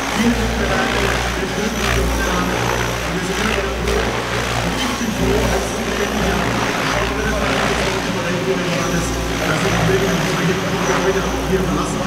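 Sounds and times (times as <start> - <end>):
background voices: 0.0 - 12.0
model helicopter rotor whirring: 0.0 - 12.0.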